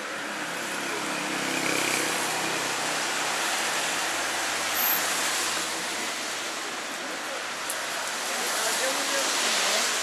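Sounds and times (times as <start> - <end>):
tyres hissing on wet road: 0.0 - 10.0.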